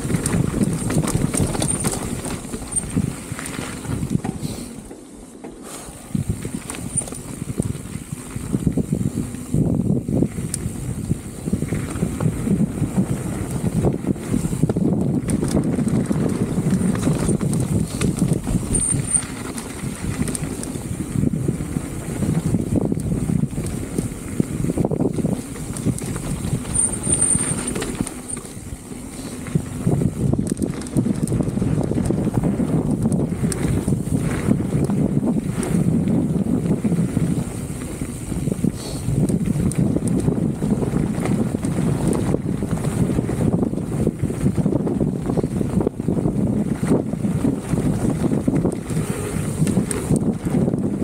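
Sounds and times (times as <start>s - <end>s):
bike rattling and knocking: 0.0s - 51.0s
bike tyres rumbling on dirt: 0.0s - 51.0s.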